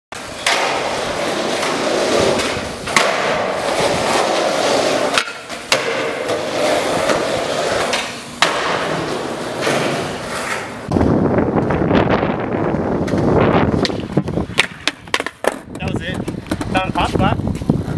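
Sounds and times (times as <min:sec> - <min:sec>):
skateboard wheels rolling on concrete: 0:00.1 - 0:17.9
skateboard clacks: 0:00.2 - 0:11.0, 0:13.0 - 0:17.7.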